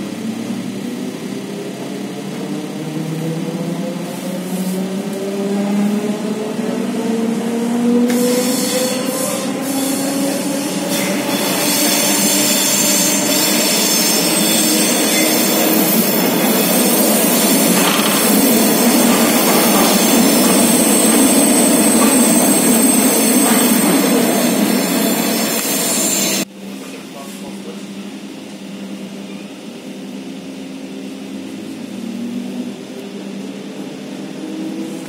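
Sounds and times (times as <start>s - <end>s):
rumble of wheels on rails: 0.0s - 35.0s
train traction motors whining: 0.0s - 35.0s.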